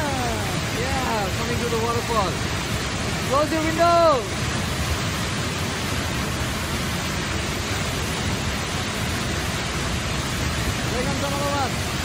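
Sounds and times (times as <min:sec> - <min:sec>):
water pouring across rock: 0:00.0 - 0:12.0
waterfall rushing: 0:00.0 - 0:12.0.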